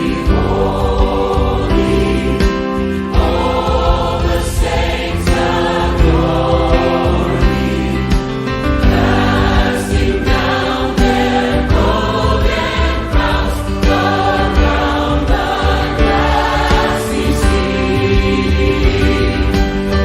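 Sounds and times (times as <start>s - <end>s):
group singing worship song: 0.0s - 20.0s
instrumental accompaniment: 0.0s - 20.0s.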